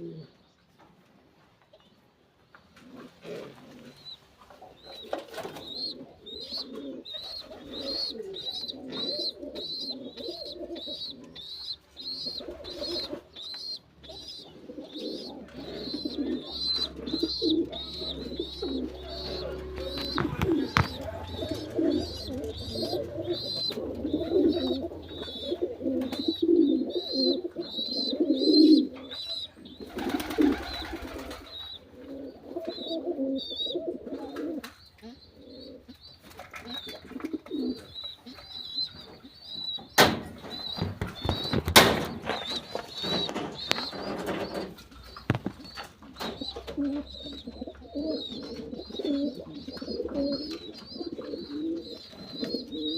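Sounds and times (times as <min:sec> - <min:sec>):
pigeons cooing: 0:00.0 - 0:00.4, 0:02.7 - 0:52.9.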